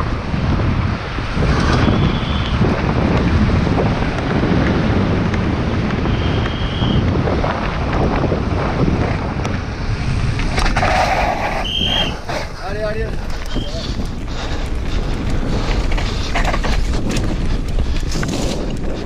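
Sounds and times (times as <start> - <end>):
bike rattles and clicks: 0.0 - 19.0
bike tyres rumbling on asphalt: 0.0 - 19.0
wind buffeting microphone: 0.0 - 19.0.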